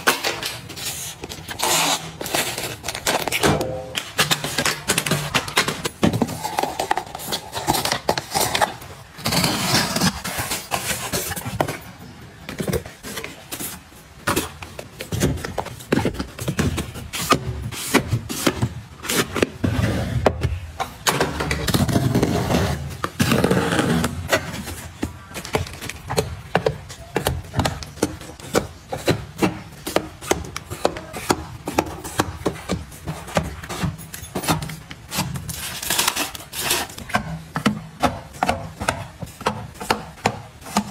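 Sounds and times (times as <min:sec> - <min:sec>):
packets crinkling and rustling: 0:00.0 - 0:19.6, 0:20.9 - 0:40.9.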